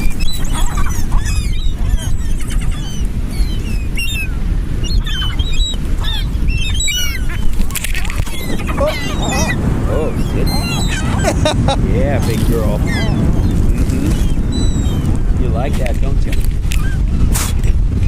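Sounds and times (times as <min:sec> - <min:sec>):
seagulls squawking: 0:00.0 - 0:17.1
steady low rumble: 0:00.0 - 0:18.0.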